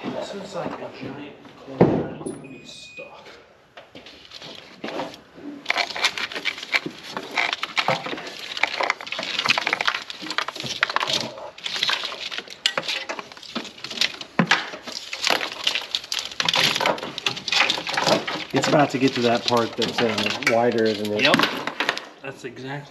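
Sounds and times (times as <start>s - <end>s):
plastic rustling and scraping on metal: 3.9s - 22.9s.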